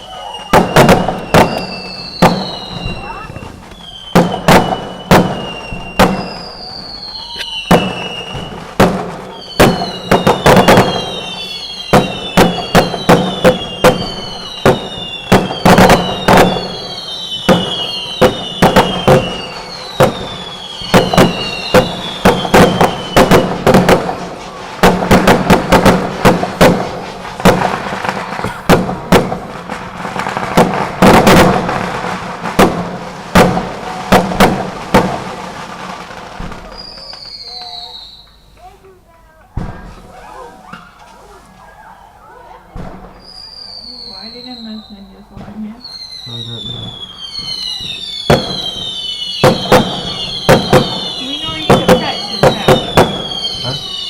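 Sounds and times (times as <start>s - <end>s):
whistling rockets: 0.0s - 38.7s, 39.6s - 54.0s
fireworks bangs: 0.0s - 54.0s.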